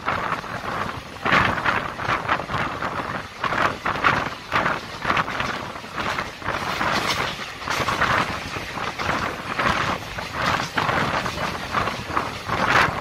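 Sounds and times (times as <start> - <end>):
train wheel and track noise: 0.0 - 13.0.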